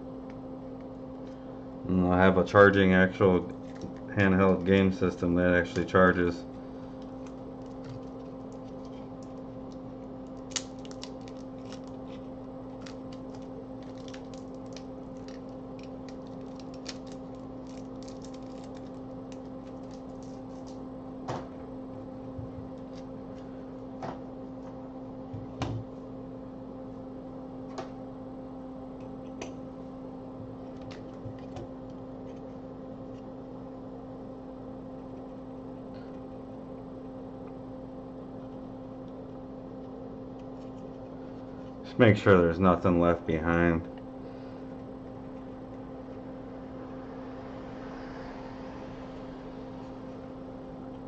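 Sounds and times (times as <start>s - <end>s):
electrical hum: 0.0s - 51.0s.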